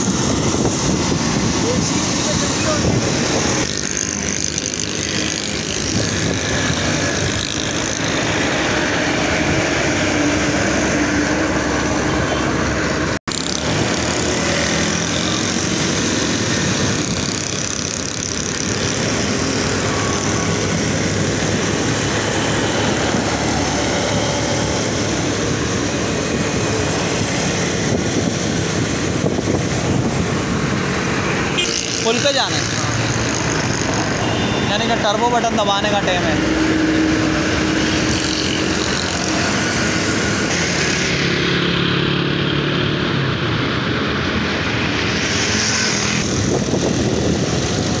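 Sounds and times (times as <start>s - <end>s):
motorcycle engines: 0.0s - 48.0s
traffic and road noise: 0.0s - 48.0s.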